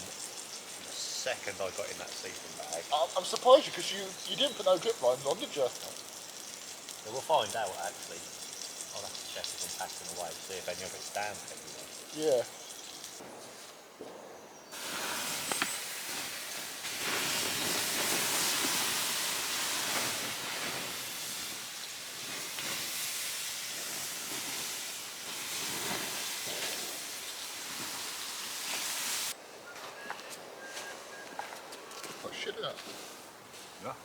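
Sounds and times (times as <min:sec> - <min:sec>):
water hissing on embers: 0:00.0 - 0:14.0, 0:14.7 - 0:29.4, 0:30.8 - 0:34.0.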